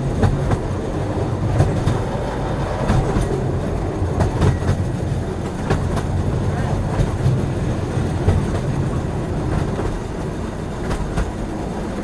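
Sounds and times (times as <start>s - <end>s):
train rumble from inside car: 0.0s - 12.0s
wheels clicking over rail joints: 0.0s - 12.0s.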